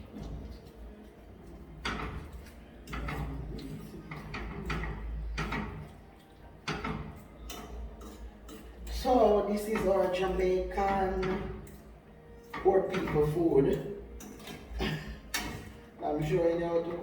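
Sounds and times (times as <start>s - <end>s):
cookware and utensils knocking: 1.8s - 17.0s.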